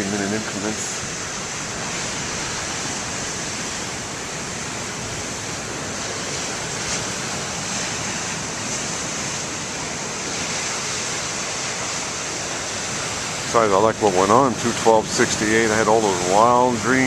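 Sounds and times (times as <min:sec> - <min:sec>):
heavy waves breaking: 0:00.0 - 0:17.0.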